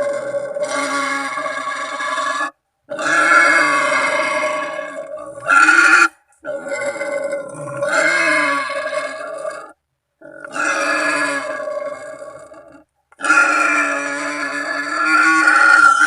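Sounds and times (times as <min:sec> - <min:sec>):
wild boar calling: 0:00.0 - 0:16.0.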